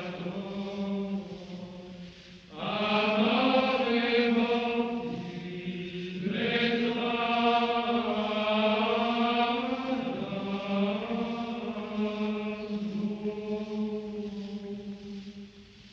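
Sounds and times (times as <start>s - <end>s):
chant-like music with long notes: 0.0s - 15.9s
low drone: 0.0s - 15.9s.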